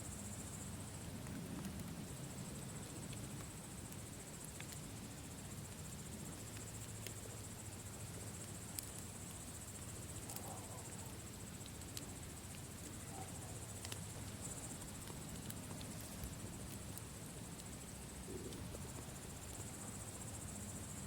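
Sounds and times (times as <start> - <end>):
crickets chirring: 0.0 - 21.0
campfire crackling and popping: 0.9 - 19.9.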